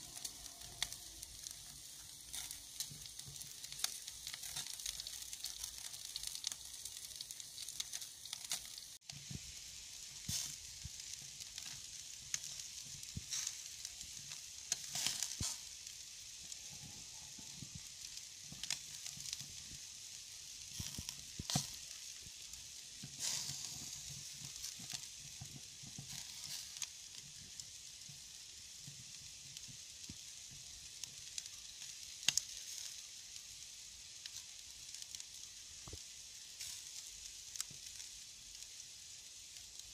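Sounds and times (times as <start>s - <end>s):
embers popping and crackling: 0.0s - 39.9s
meat sizzling over embers: 0.0s - 39.9s.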